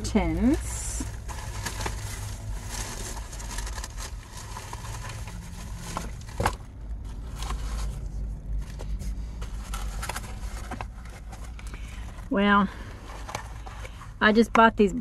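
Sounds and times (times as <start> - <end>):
plastic packet rustling: 0.4 - 14.0.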